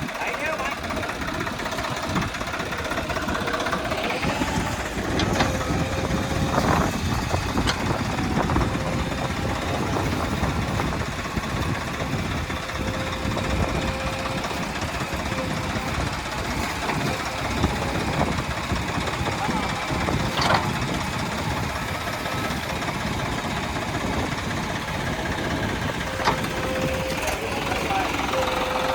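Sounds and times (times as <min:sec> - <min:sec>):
heavy diesel engines running: 0:00.0 - 0:28.9.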